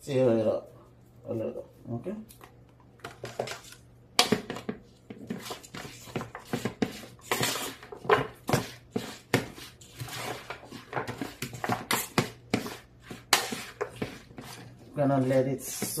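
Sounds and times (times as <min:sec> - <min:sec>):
spatula scraping and clattering in bowl: 0:03.1 - 0:16.0.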